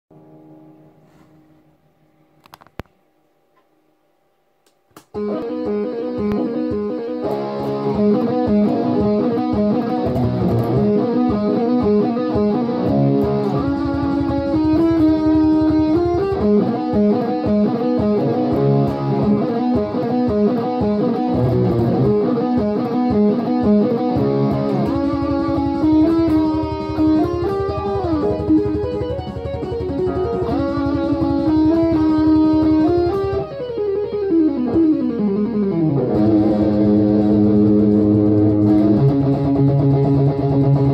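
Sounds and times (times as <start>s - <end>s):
electric guitar melody: 0.1s - 1.2s, 5.0s - 40.9s.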